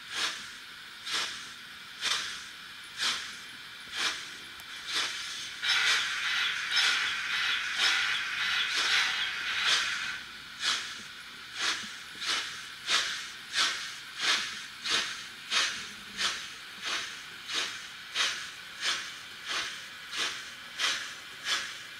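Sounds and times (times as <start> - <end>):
steam hiss: 0.0 - 21.9
steam locomotive exhaust chuffs: 0.0 - 21.9.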